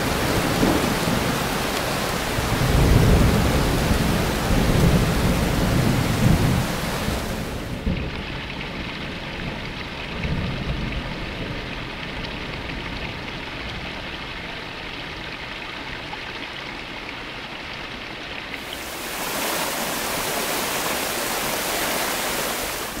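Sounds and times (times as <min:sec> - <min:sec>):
river water flowing: 0:00.0 - 0:07.8, 0:12.0 - 0:23.0
rain: 0:00.0 - 0:23.0.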